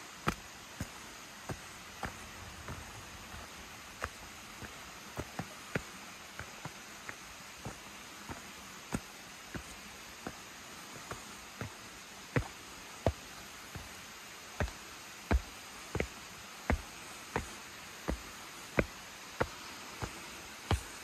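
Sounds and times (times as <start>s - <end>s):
footsteps on forest trail: 0.0s - 21.0s
steady low hiss: 0.0s - 21.0s.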